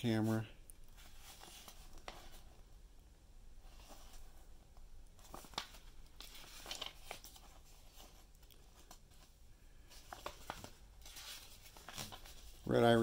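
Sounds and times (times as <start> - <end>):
paper pages rustling: 0.2 - 2.6, 3.6 - 13.0.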